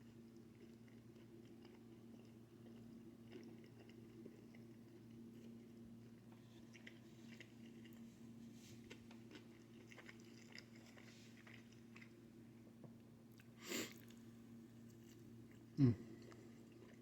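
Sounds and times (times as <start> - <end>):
person chewing food: 0.0 - 12.3, 14.9 - 17.0.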